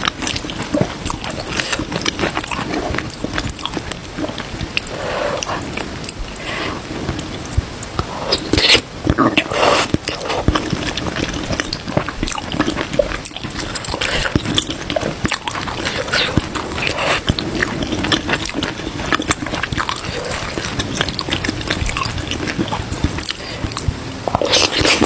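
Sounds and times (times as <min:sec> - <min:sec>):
wet chewing and smacking: 0:00.0 - 0:25.0
slurping food: 0:00.2 - 0:07.4, 0:08.0 - 0:25.0.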